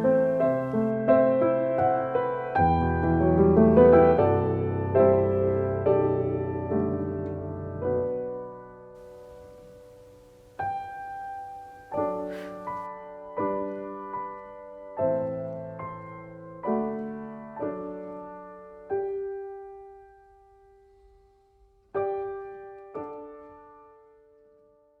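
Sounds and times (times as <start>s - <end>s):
soft solo piano music: 0.0s - 25.0s.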